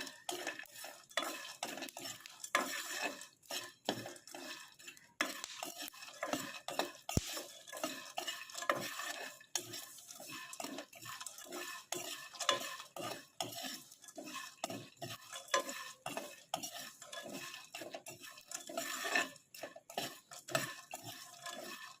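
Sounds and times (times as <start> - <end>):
nuts clattering in pan: 0.0 - 22.0
utensil scraping pan: 0.0 - 22.0.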